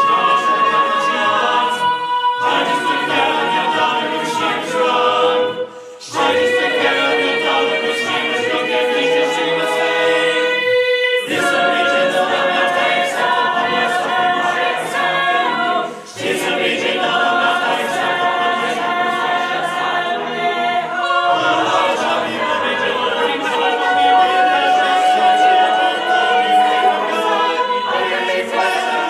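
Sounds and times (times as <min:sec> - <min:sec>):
a cappella choir singing: 0:00.0 - 0:29.0.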